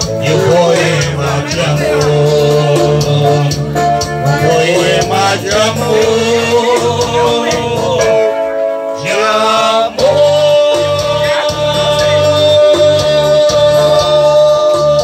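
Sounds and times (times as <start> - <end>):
bass line: 0.0 - 15.0
electronic keyboard melody: 0.0 - 15.0
programmed drum rhythm: 0.0 - 15.0.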